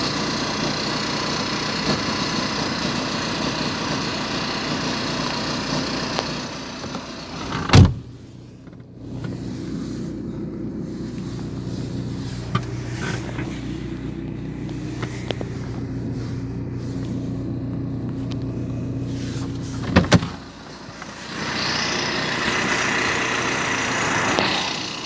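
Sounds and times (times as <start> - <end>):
diesel engine idling: 0.0 - 25.0
exhaust hissing rush: 0.0 - 25.0.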